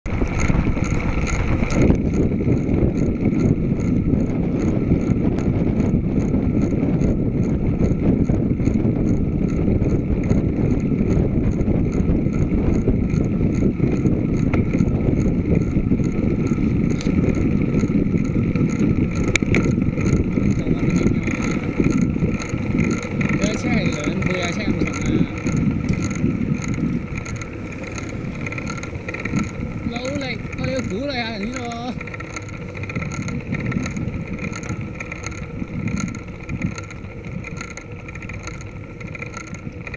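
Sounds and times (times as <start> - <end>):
tyre and road rumble: 0.0 - 39.9
wind buffeting microphone: 0.0 - 39.9.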